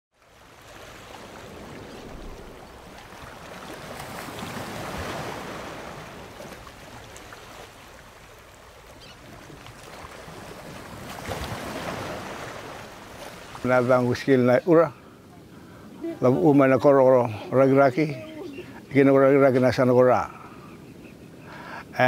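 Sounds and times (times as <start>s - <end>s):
wind: 0.0s - 22.0s
waves washing on shore: 0.1s - 22.0s.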